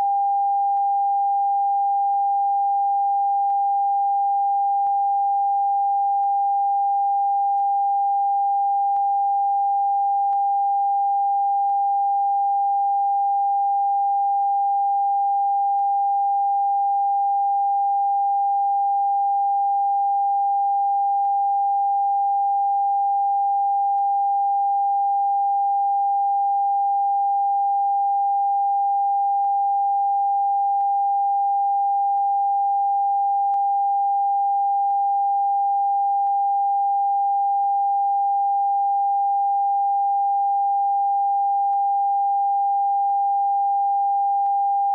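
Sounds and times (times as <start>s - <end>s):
steady sine-wave test tone: 0.0s - 44.9s.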